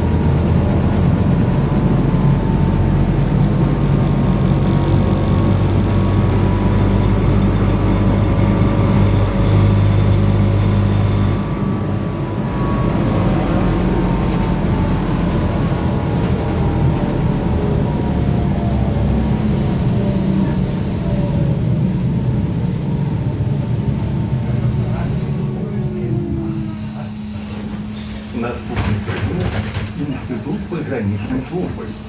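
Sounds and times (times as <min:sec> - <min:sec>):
road rumble: 0:00.0 - 0:32.0.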